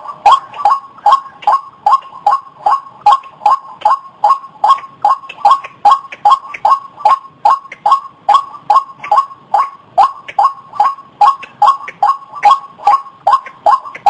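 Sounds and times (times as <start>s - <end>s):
waterhen croaking call: 0.0s - 14.0s.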